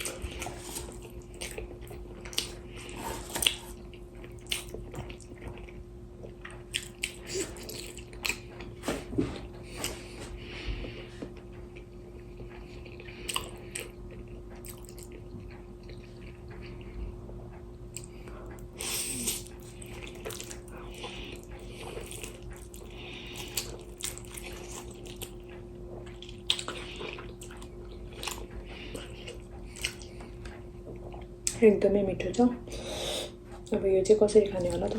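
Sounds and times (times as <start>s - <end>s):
chewing and slurping noodles: 0.0s - 8.8s, 9.6s - 17.1s, 17.9s - 31.3s.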